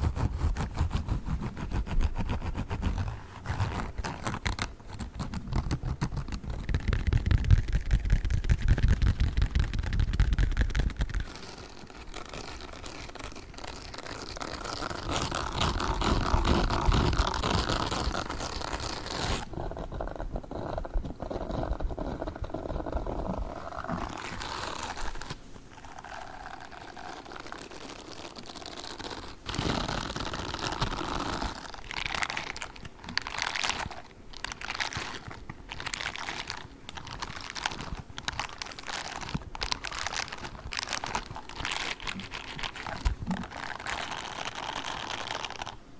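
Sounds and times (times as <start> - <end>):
gloves rubbing and scratching: 0.0 - 45.9.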